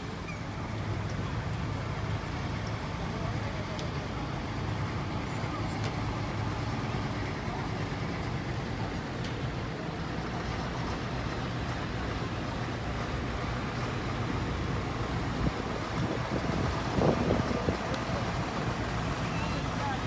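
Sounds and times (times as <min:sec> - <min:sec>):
aircraft engines droning: 0:00.1 - 0:20.0.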